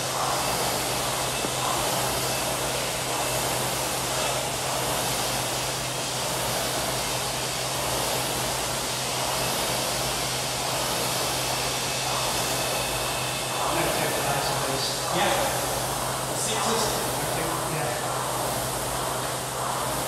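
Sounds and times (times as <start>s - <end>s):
low hum: 0.0s - 20.0s
rowing machine fan whooshing: 0.0s - 20.0s.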